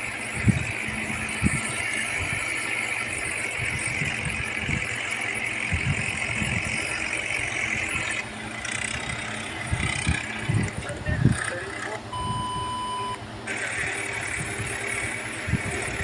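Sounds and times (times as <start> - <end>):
diesel tractor engine running: 0.0 - 16.0
high whine: 0.0 - 16.0.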